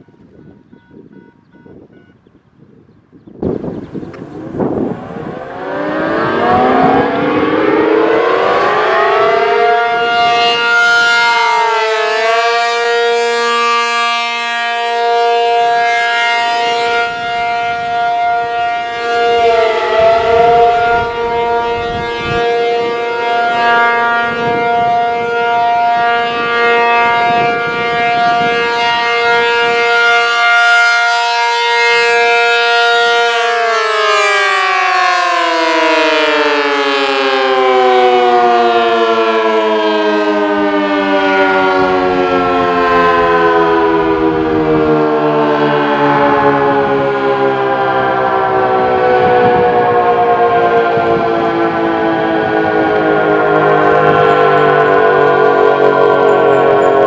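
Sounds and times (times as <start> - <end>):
warning siren winding up: 3.7 - 57.0.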